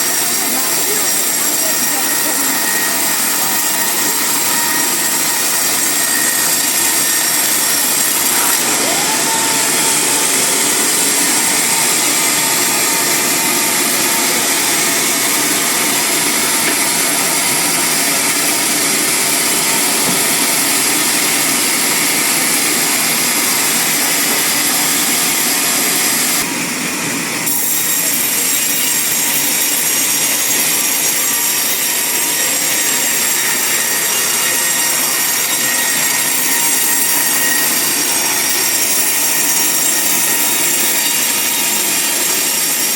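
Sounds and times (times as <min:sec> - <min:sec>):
band saw cutting log: 0:00.0 - 0:26.6, 0:27.4 - 0:42.9
mill motor running: 0:00.0 - 0:42.9.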